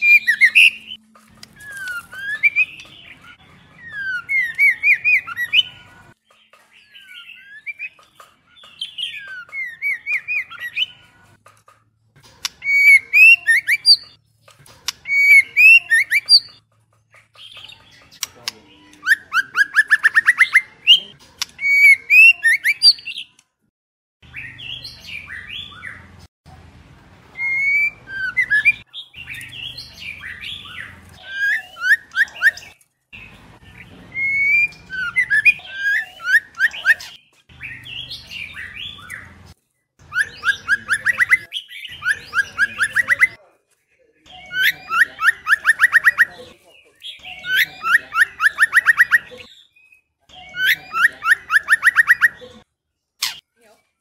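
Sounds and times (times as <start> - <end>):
birds singing and calling: 0.0 - 23.6, 24.2 - 26.3, 27.2 - 43.4, 44.2 - 54.0.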